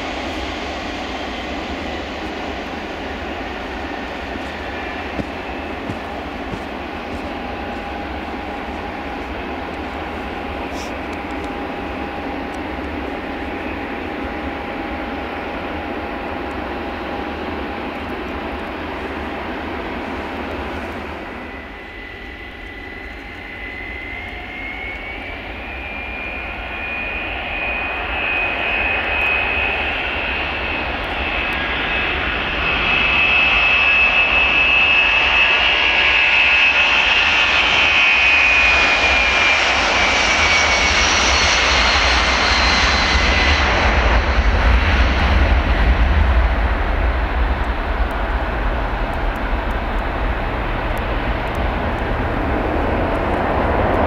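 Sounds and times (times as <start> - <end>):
deep jet rumble: 0.0 - 54.0
jet engine whine: 0.0 - 54.0.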